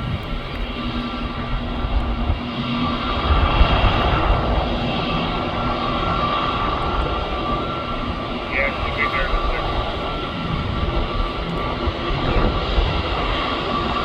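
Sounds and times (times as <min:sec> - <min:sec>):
jet engines roaring and whining: 0:00.0 - 0:14.0.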